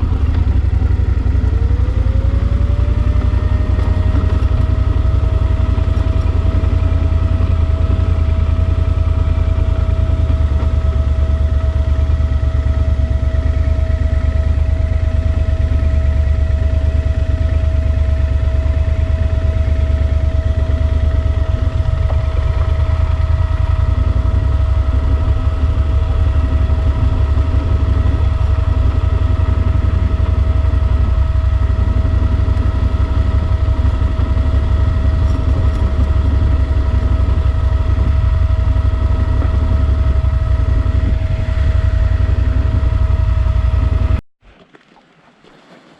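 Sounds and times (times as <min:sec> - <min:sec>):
motorcycle engine cruising: 0:00.0 - 0:44.2
steady engine whine: 0:00.0 - 0:44.2.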